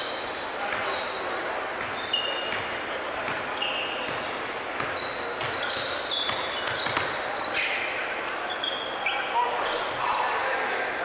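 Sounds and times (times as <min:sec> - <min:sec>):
sneakers squeaking on hardwood floor: 0:00.0 - 0:11.0.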